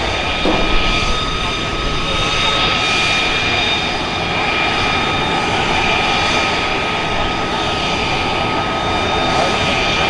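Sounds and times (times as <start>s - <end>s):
military aircraft engines whining: 0.0s - 10.0s.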